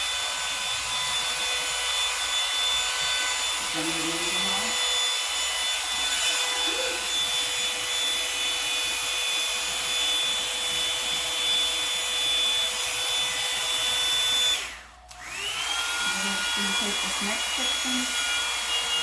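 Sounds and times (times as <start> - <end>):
hair dryer brush fan whine: 0.0 - 19.0.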